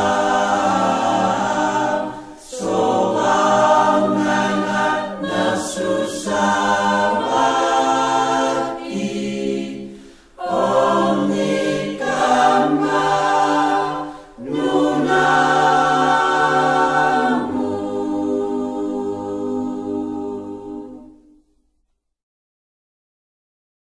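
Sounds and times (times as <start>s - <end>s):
choir singing a hymn: 0.0s - 21.3s.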